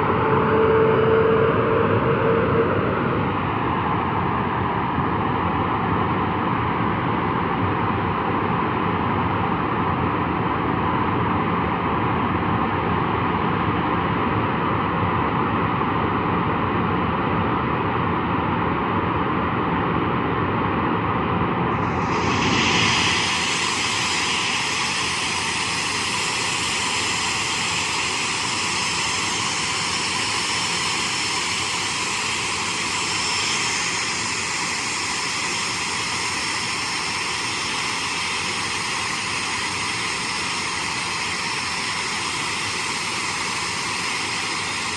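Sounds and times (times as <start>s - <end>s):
jet engines running: 0.0s - 20.2s, 20.8s - 44.9s.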